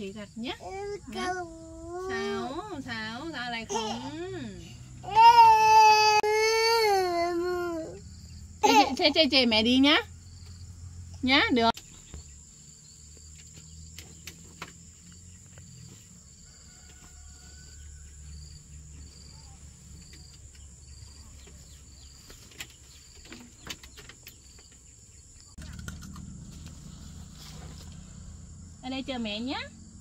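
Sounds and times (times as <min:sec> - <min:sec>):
crickets chirping: 0:00.0 - 0:05.8, 0:06.9 - 0:30.0.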